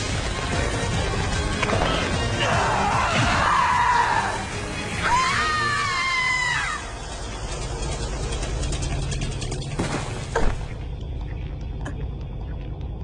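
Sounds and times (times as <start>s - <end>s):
dramatic background music: 0.0s - 13.0s.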